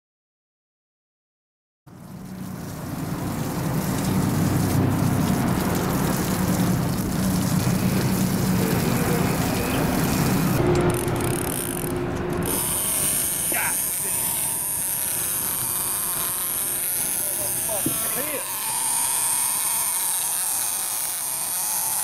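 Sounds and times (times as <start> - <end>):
low engine drone: 1.9 - 21.3
water noise: 1.9 - 22.0
wind: 1.9 - 22.0.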